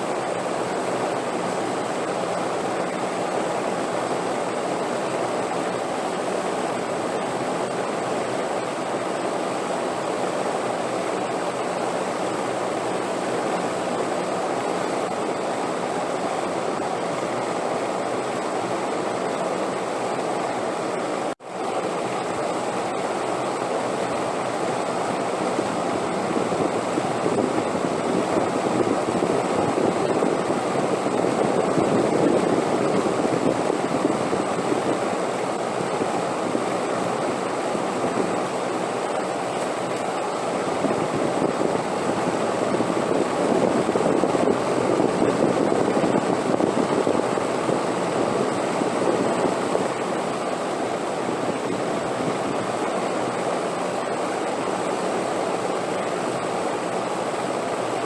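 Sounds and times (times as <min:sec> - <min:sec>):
steady rushing wind: 0:00.0 - 0:58.0.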